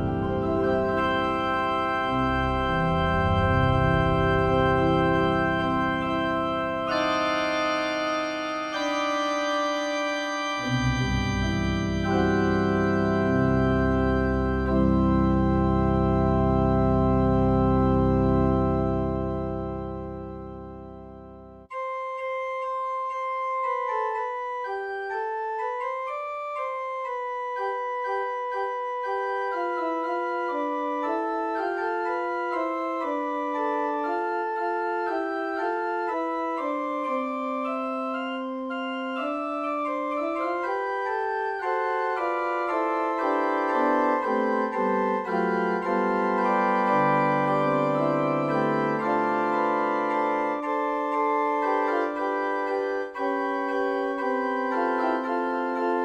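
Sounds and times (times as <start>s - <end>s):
electronic organ slow melody: 0.0s - 56.0s.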